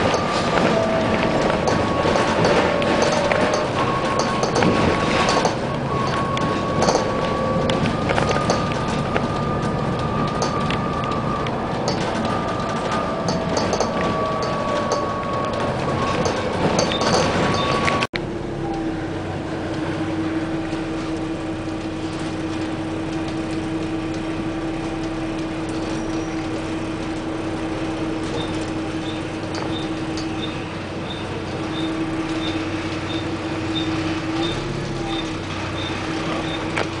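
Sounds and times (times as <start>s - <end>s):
bus engine hum with whine: 0.0s - 37.0s.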